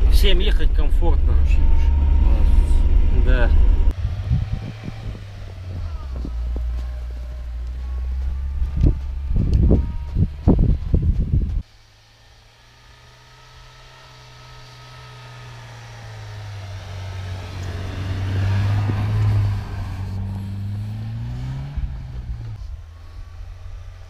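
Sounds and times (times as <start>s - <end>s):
suv engine driving past: 0.0s - 24.0s
tyres churning snow: 0.0s - 24.0s.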